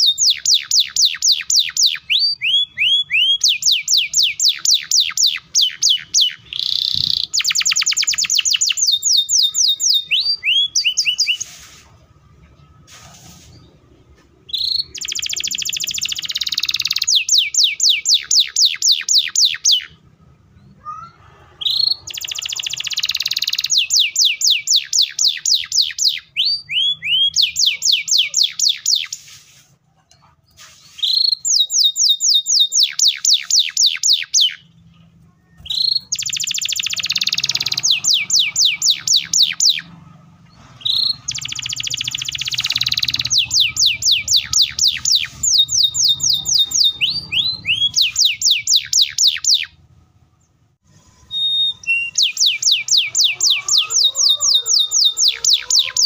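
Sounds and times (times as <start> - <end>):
canary singing: 0.0 - 29.4, 30.1 - 56.0.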